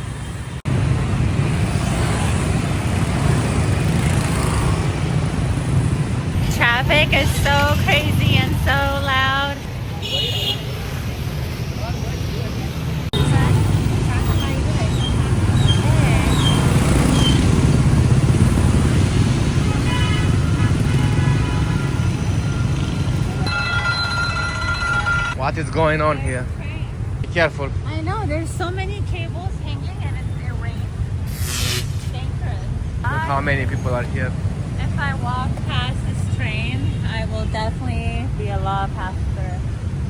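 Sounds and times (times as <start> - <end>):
motorbike and car engines: 0.0 - 24.5, 25.1 - 40.0
dense city traffic rumble: 0.0 - 40.0.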